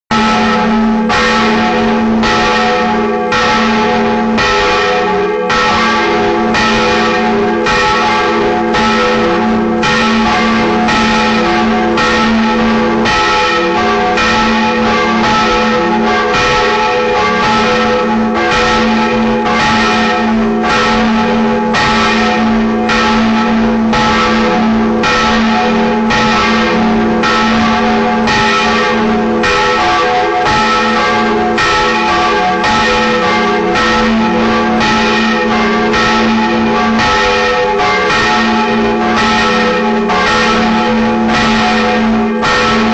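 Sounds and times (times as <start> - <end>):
church bells ringing: 0.1 - 42.9
hum of ringing bells: 0.1 - 42.9.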